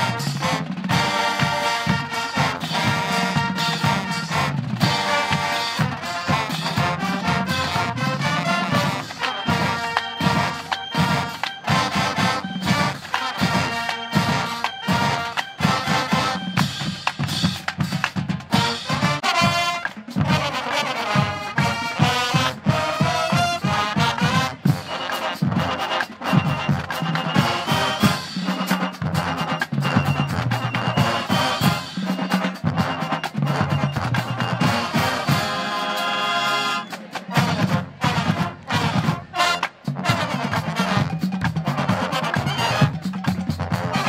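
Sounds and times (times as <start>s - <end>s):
drumline pounding beat: 0.0s - 44.0s
marching band brass: 0.0s - 44.0s.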